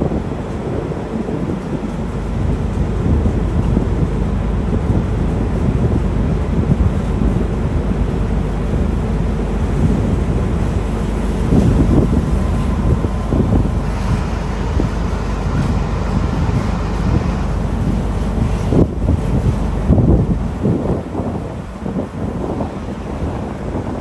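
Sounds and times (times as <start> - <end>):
low rumble: 0.0 - 24.0
wind buffeting microphone: 0.0 - 24.0.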